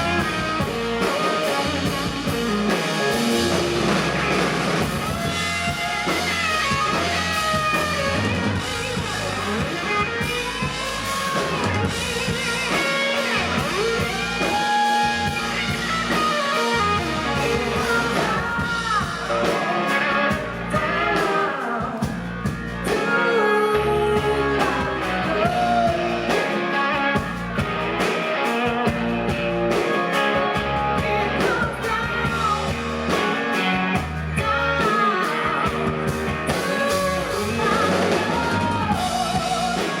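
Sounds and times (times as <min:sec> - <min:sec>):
bass guitar: 0:00.0 - 0:40.0
drum kit: 0:00.0 - 0:40.0
electric guitar: 0:00.0 - 0:40.0
person singing: 0:05.0 - 0:27.3, 0:29.7 - 0:40.0.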